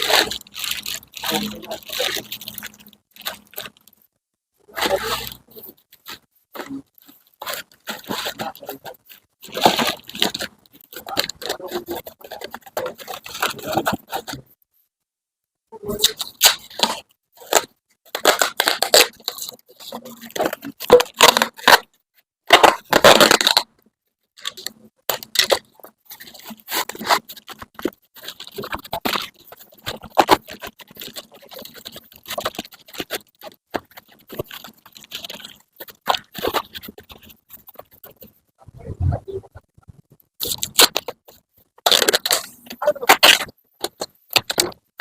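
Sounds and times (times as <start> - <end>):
plastic packaging crinkling and tearing: 0.0 - 4.1, 4.7 - 14.4, 16.0 - 23.8, 24.4 - 38.4, 40.4 - 45.0.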